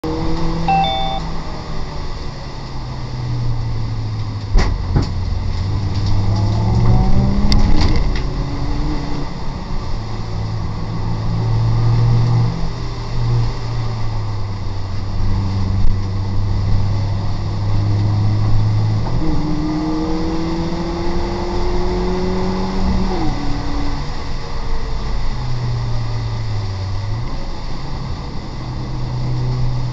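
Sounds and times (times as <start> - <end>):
race car engine: 0.0 - 29.9.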